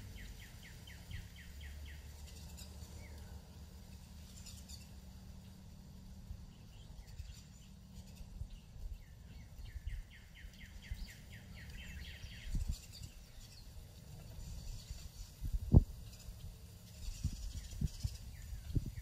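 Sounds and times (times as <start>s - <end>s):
songbird trilling: 0.0s - 3.4s, 6.5s - 19.0s
faint bird chirps: 0.0s - 19.0s.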